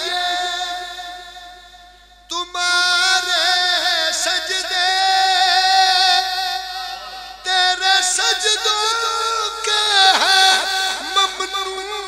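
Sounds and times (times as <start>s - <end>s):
man singing long held notes: 0.0s - 1.6s, 2.3s - 12.0s.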